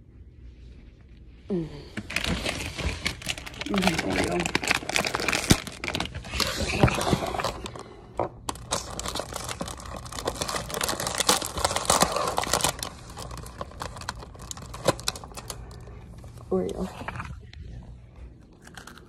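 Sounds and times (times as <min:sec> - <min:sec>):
close rustling and crinkling: 0:02.0 - 0:18.3.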